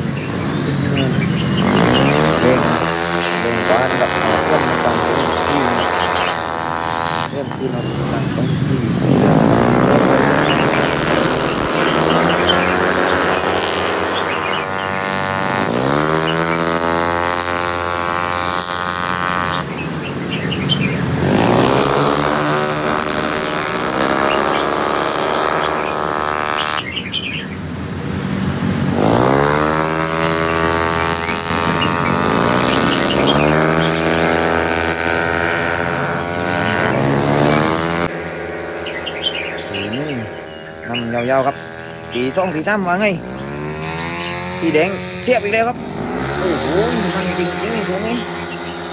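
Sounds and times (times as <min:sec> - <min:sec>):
motorcycle engines accelerating hard: 0:00.0 - 0:48.9.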